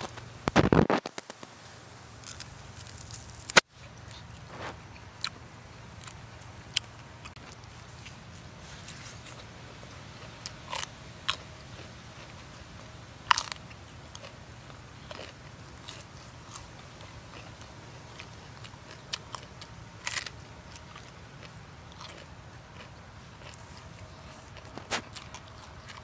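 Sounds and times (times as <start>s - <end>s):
crunching bites of cabbage: 2.2s - 9.5s, 10.2s - 12.5s, 13.3s - 14.4s, 15.0s - 26.0s
person chewing: 2.2s - 26.0s.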